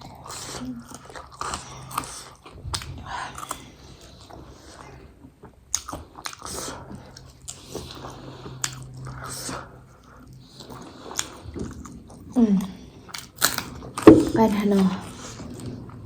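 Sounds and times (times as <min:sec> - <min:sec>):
chewing and biting food: 0:00.0 - 0:14.4.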